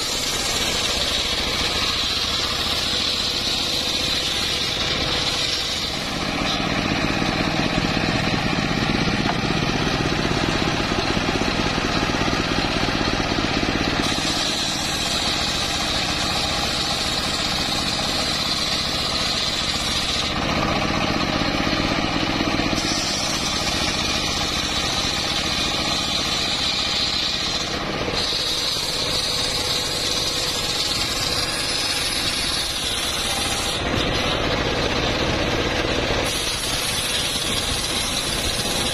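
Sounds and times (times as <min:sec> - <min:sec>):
circular saw blade cutting log: 0:00.0 - 0:38.9
steady engine note: 0:00.0 - 0:38.9.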